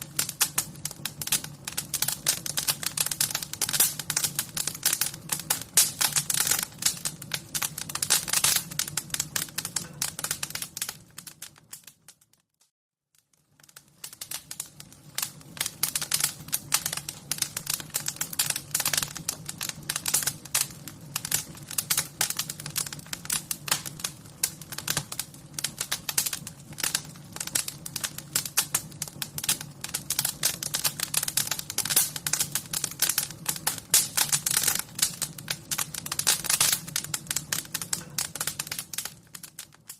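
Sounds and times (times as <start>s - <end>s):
low rumble of fire: 0.0s - 12.3s, 13.3s - 39.9s
wood fire crackling: 0.0s - 12.5s, 13.1s - 39.9s.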